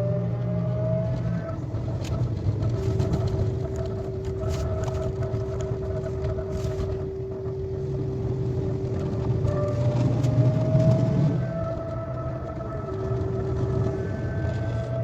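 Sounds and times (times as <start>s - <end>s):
steady train whine: 0.0s - 15.0s
train interior rumble: 0.0s - 15.0s.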